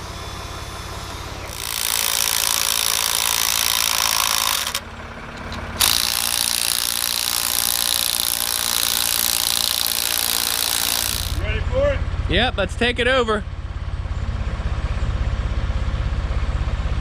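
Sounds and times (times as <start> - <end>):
forklift engine hum: 0.0 - 17.0.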